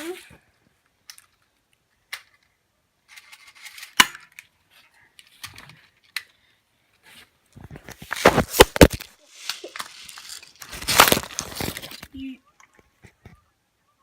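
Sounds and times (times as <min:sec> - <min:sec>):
light rustling handling noise: 0:00.0 - 0:13.4.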